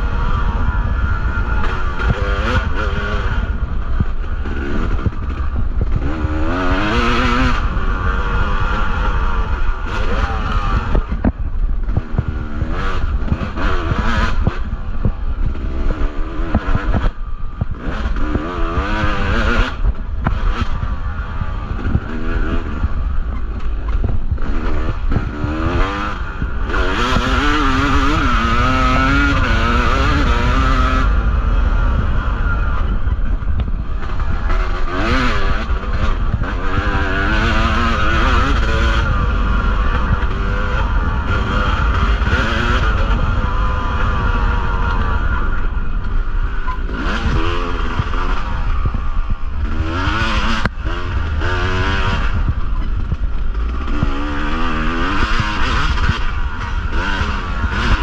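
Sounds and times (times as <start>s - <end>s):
two-stroke dirt bike engine: 0.0s - 58.0s.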